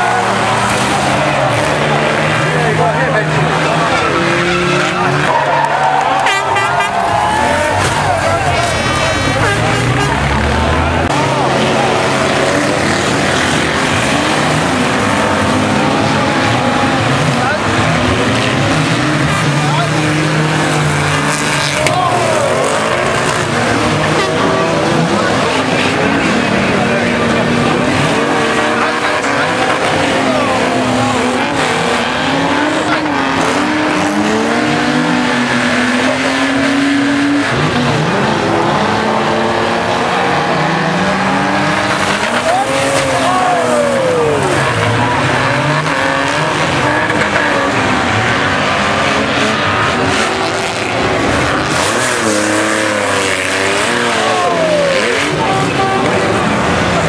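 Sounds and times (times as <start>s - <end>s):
racing car engines revving: 0.0s - 57.0s
tyres squealing and skidding: 0.0s - 57.0s.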